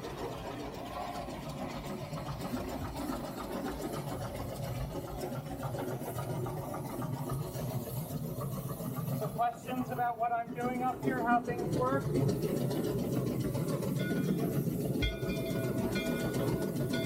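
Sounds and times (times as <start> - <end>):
steam locomotive mechanical clatter: 0.0 - 17.0.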